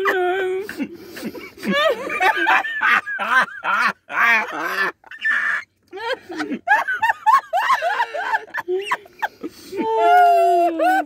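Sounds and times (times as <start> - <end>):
hearty laughter: 0.0 - 11.0.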